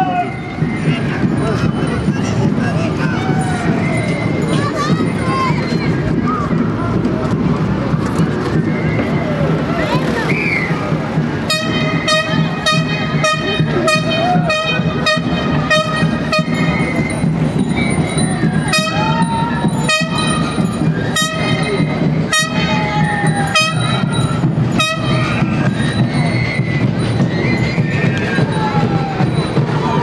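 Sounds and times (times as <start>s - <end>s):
drum beating: 0.0s - 30.0s
voices calling out: 0.0s - 30.0s.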